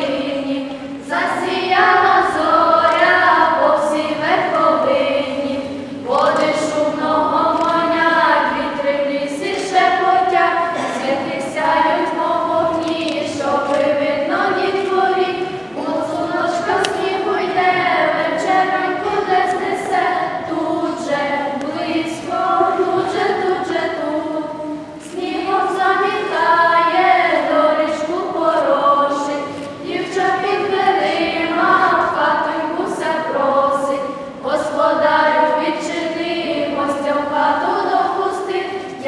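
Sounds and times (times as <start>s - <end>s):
girls choir singing unaccompanied: 0.0s - 39.0s.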